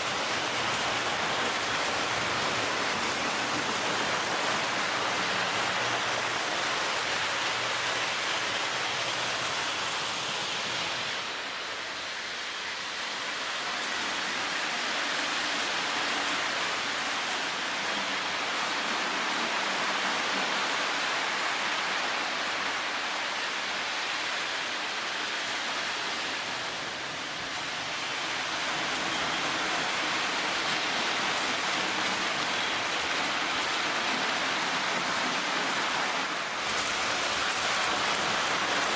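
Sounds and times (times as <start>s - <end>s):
model train rumbling on track: 0.0s - 38.9s.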